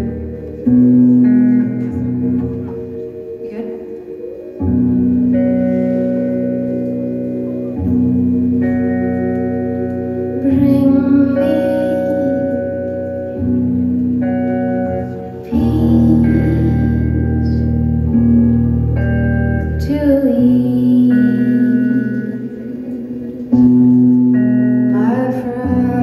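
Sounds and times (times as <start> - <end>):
electric guitar chords: 0.0 - 26.0
keyboard chords: 0.0 - 26.0.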